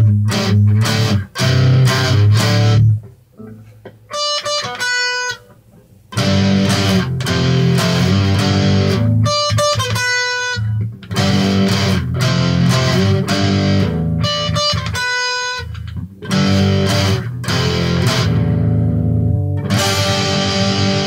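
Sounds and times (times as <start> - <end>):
high ringing guitar notes: 0.0 - 5.6, 6.2 - 21.0
electric guitar strummed chords: 0.0 - 21.0.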